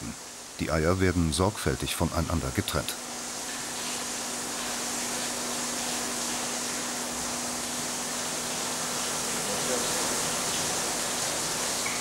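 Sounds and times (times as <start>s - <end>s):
running water hissing: 0.0s - 12.0s.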